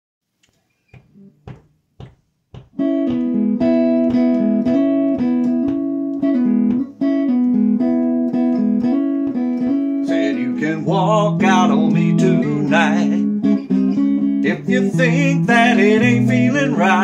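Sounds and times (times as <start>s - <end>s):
electric guitar chords: 2.6s - 17.0s.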